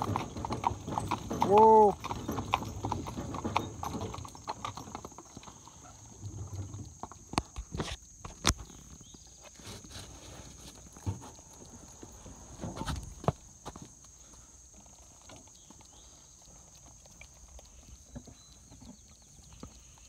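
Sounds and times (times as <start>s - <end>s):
horse hooves clip-clopping on pavement: 0.0s - 8.3s, 10.6s - 20.0s.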